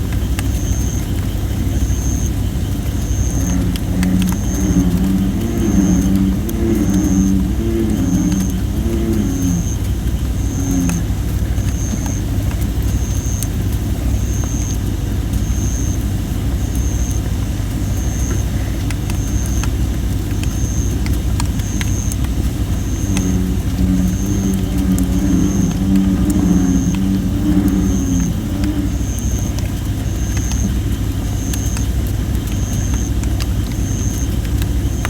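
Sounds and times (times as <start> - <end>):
campfire crackling and popping: 0.0 - 35.0
bullfrog calling: 1.7 - 13.6, 15.4 - 35.0.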